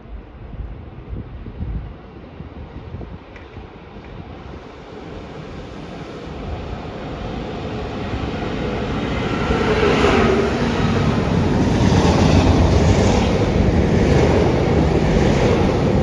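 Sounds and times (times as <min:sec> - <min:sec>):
train rumble: 0:02.4 - 0:16.0.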